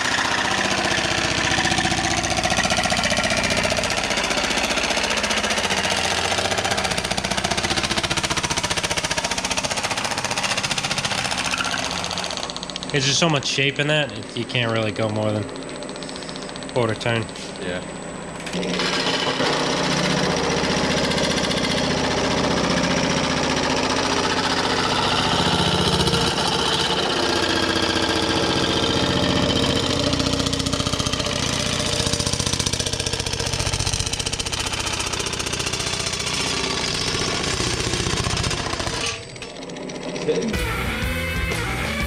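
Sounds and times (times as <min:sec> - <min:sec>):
machine hammering steel panel: 0:00.0 - 0:13.7, 0:18.5 - 0:40.6.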